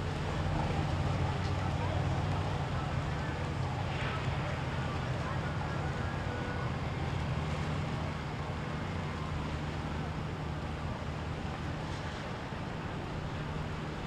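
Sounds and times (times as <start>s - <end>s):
motorboat engines humming: 0.0s - 14.0s
water wash: 0.0s - 14.0s.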